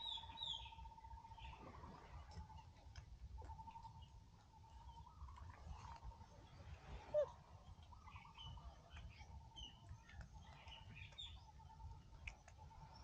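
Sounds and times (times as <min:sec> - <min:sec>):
faint bird chirps: 0:00.0 - 0:02.8, 0:03.4 - 0:13.0.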